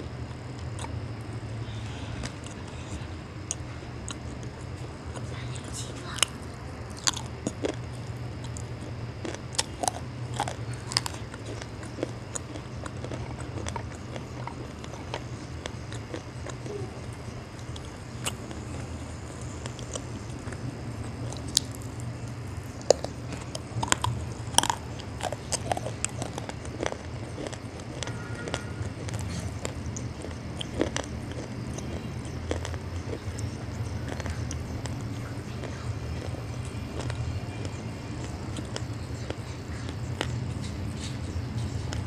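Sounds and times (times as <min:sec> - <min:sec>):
crunchy bites and chewing: 0:00.0 - 0:42.0.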